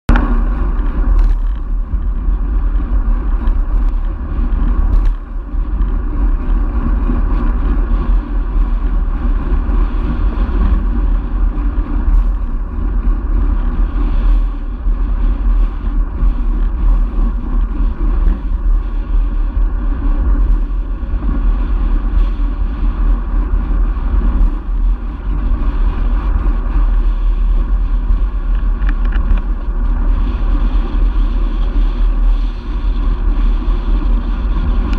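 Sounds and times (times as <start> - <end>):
tyre and road noise: 0.1 - 34.9
wind buffeting microphone: 0.1 - 34.9.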